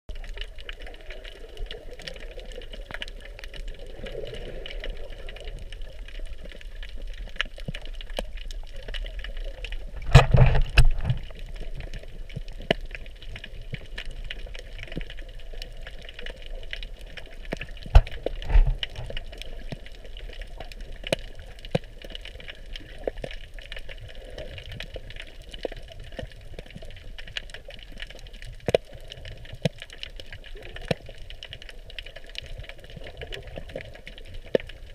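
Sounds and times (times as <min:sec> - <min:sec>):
sharp clicks and crackles: 0:00.1 - 0:34.9.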